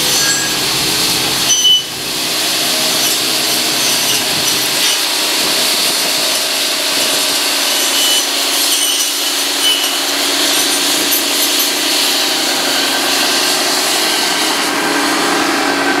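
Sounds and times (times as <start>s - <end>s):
circular saw blades whirring: 0.0s - 16.0s
tractor engine running: 0.0s - 16.0s.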